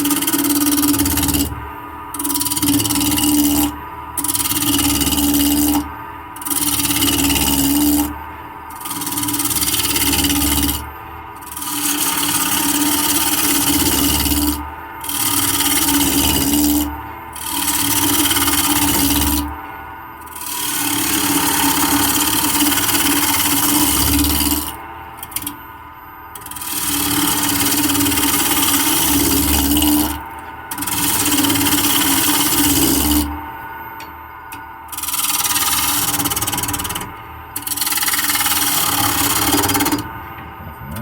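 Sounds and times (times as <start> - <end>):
gouge cutting wood on a lathe: 0.0 - 19.6, 20.2 - 25.6, 26.4 - 33.5, 34.9 - 40.1
lathe humming: 0.0 - 25.6, 26.3 - 33.7, 34.4 - 41.0.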